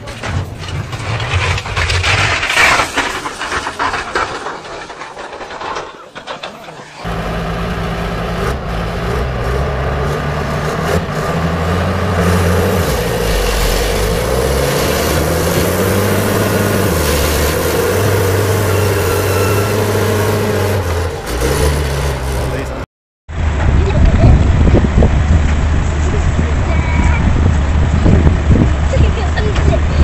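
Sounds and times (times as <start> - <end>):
diesel engine under load: 0.0 - 30.0.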